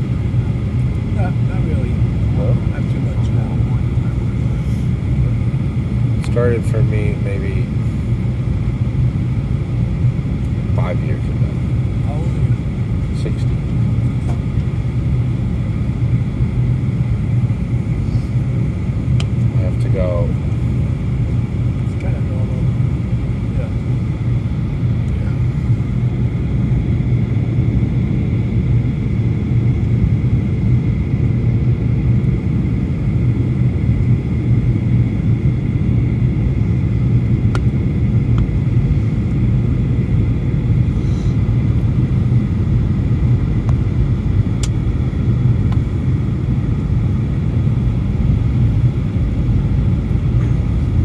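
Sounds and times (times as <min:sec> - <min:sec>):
airplane cabin drone: 0:00.0 - 0:51.0.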